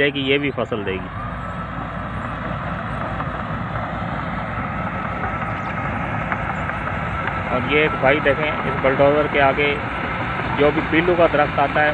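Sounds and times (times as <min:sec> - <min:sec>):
bulldozer diesel engine rumbling: 0:00.0 - 0:11.9.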